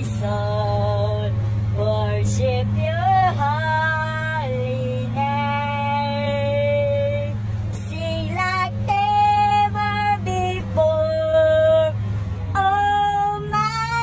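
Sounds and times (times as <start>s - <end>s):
low engine hum: 0.0s - 14.0s
woman singing: 0.0s - 14.0s.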